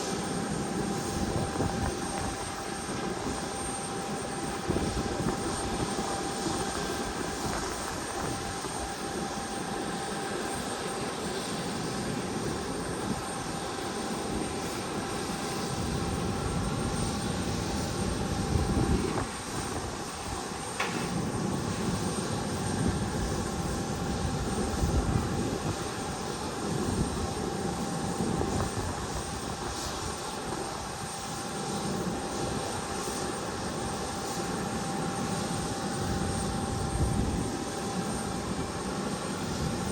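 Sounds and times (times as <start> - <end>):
airliner engines running: 0.0 - 39.9.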